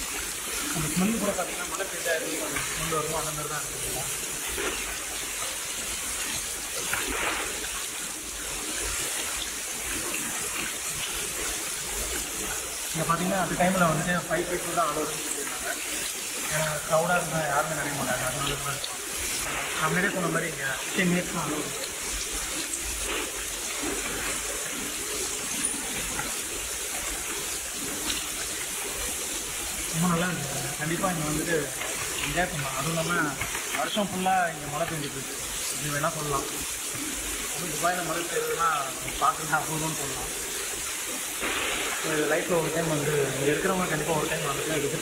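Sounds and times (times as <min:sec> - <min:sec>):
water pouring onto floor: 0:00.0 - 0:45.0.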